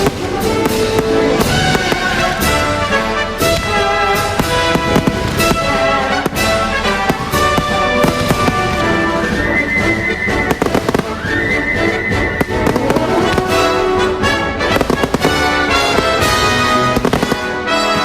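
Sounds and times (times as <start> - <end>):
fireworks bangs and crackles: 0.0 - 18.0
music with long held notes: 0.0 - 18.0.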